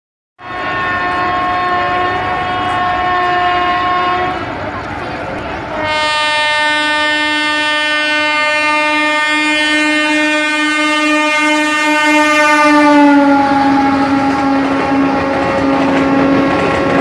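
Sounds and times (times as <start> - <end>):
locomotive horn blast: 0.4 - 17.0
passing train rattle: 0.4 - 17.0.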